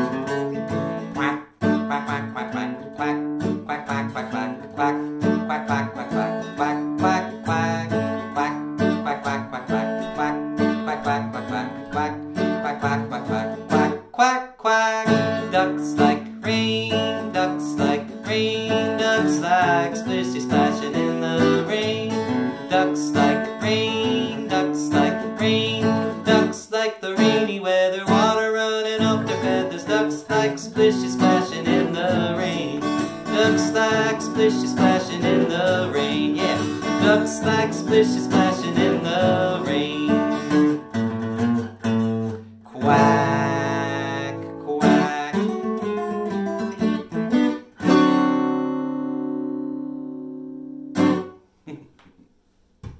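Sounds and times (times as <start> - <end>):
man singing: 0.0 - 46.6
acoustic guitar strumming chords: 0.0 - 51.5.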